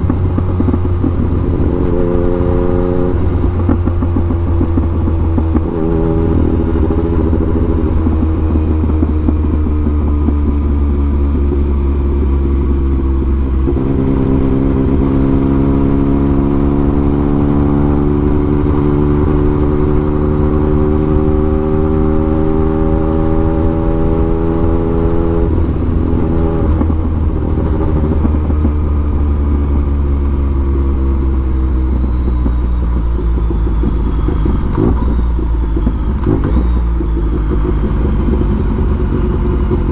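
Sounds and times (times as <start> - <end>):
motorcycle engine at full throttle: 0.0 - 39.9.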